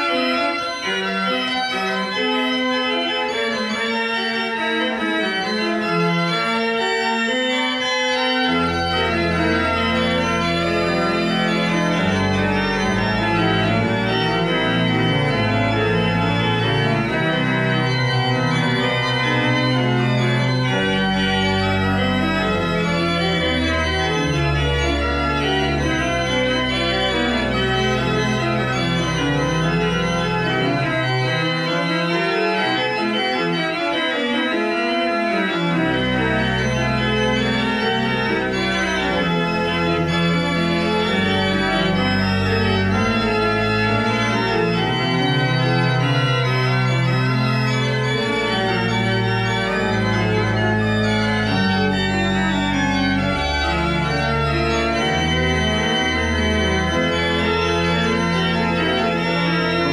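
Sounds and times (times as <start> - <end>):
deep organ pedal bass: 0.0 - 59.9
pipe organ chords: 0.0 - 59.9.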